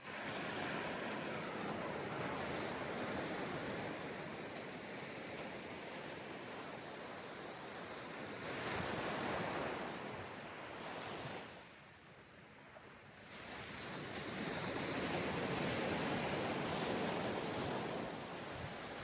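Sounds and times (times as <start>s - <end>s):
sea waves washing onto beach: 0.0s - 11.9s, 13.2s - 19.0s.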